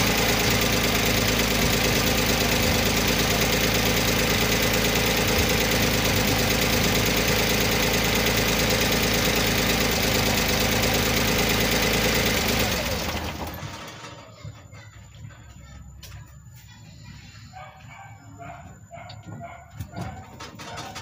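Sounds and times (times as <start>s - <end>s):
small petrol engine idling: 0.0s - 21.0s.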